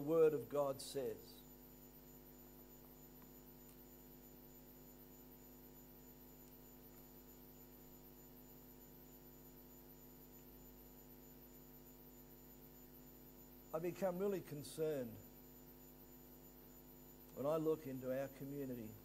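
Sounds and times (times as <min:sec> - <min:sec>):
faint electrical mains hum: 0:00.0 - 0:19.0.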